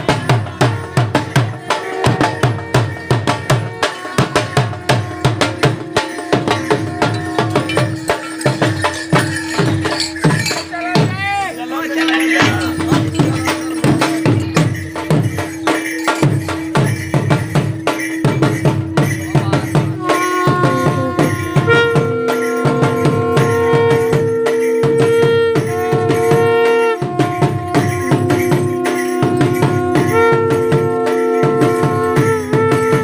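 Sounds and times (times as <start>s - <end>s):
fast driving drumming: 0.0s - 33.0s
held melody notes: 0.0s - 33.0s
jingling percussion: 0.0s - 33.0s.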